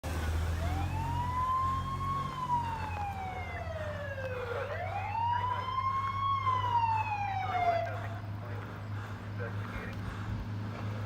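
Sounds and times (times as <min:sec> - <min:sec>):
truck engine rumble: 0:00.0 - 0:11.0
fire truck siren wailing: 0:00.3 - 0:10.0.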